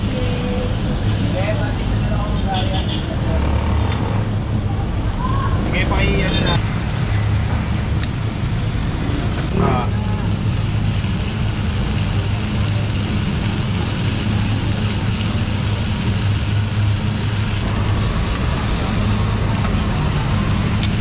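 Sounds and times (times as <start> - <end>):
pork sizzling in iron pans: 0.0 - 3.3, 5.3 - 21.0
gas burner roaring: 0.0 - 21.0.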